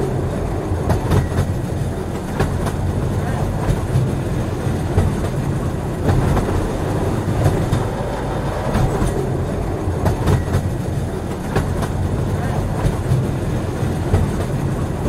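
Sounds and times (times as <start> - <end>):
train rumbling on track: 0.0 - 15.0
wheels clicking over rail joints: 0.0 - 15.0.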